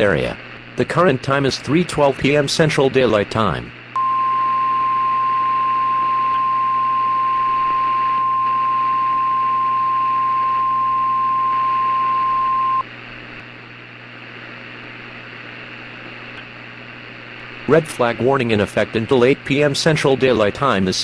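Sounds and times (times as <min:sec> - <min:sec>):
low hiss and hum: 0:00.0 - 0:21.0.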